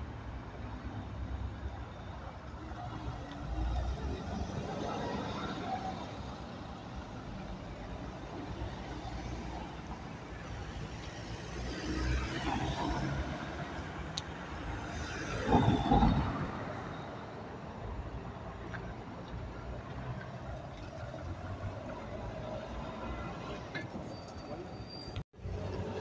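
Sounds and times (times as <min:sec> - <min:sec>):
traffic engine and tyre rumble: 0:00.0 - 0:26.0.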